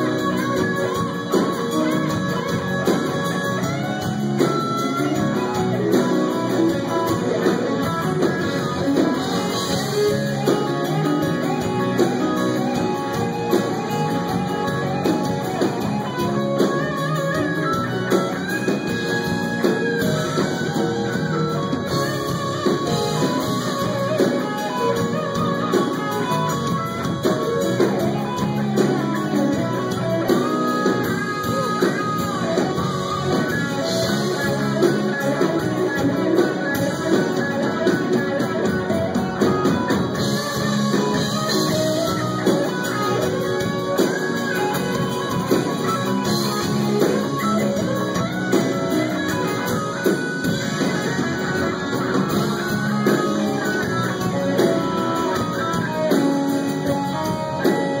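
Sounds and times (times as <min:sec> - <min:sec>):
electric guitar lead bending notes: 0:00.0 - 0:58.0
live rock band playing: 0:00.0 - 0:58.0.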